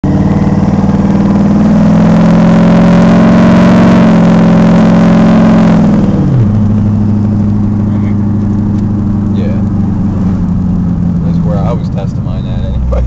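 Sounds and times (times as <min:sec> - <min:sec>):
truck engine accelerating: 0:00.0 - 0:13.0.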